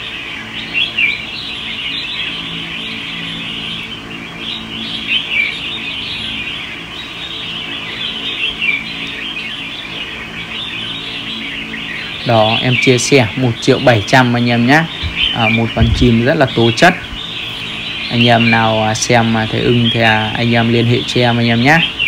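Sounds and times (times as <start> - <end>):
birds chirping and singing: 0.0 - 22.0
loud sweeping bird phrases: 0.0 - 22.0
steady low hum: 0.0 - 22.0.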